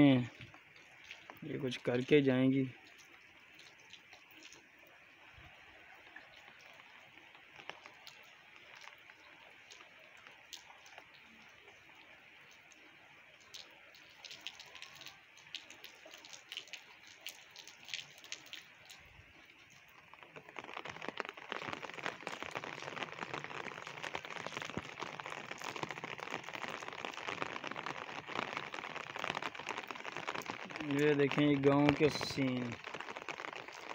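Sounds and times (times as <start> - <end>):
rain falling on a brick rooftop: 0.0 - 33.9.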